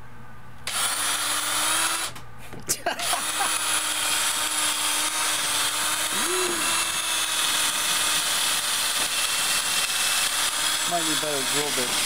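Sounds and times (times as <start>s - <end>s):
drill motor hum: 0.6s - 2.2s, 3.0s - 12.0s
drill bit grinding into metal: 0.7s - 2.2s, 3.0s - 12.0s.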